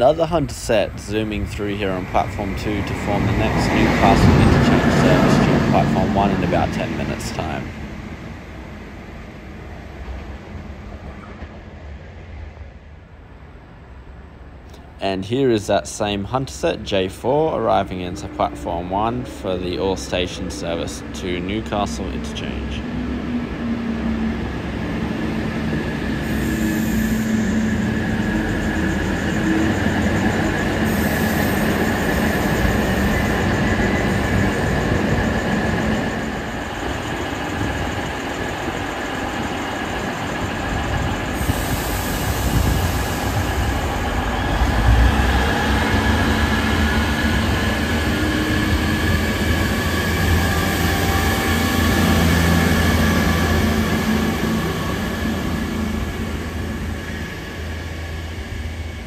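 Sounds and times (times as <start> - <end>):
train wheels on rails: 0.0 - 12.2, 14.8 - 59.0
diesel train engine rumble: 0.0 - 59.0.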